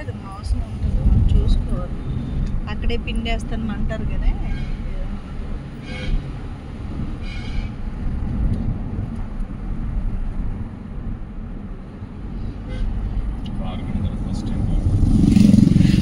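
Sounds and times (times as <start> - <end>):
road vehicle rumble: 0.0 - 16.0.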